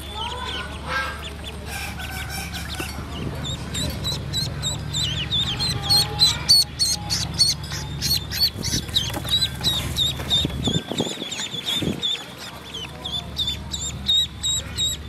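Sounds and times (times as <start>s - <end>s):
ducklings peeping: 0.0s - 15.0s
low background rumble: 0.0s - 15.0s.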